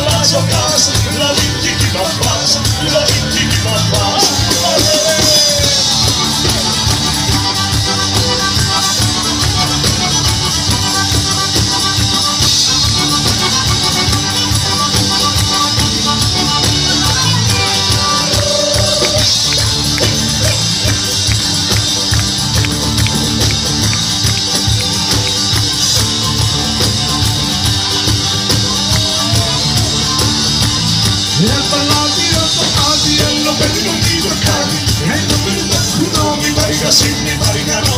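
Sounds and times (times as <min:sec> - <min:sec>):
instrumental folk music: 0:00.0 - 0:37.9.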